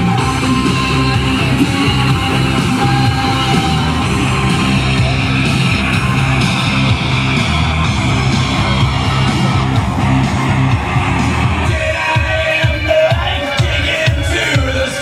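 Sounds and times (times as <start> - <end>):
loud guitar rock music: 0.0 - 15.0.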